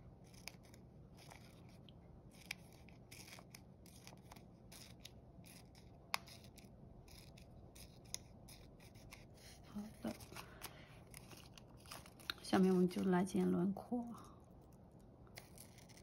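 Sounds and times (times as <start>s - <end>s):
scissors snipping paper: 0.2s - 13.3s, 15.3s - 16.0s.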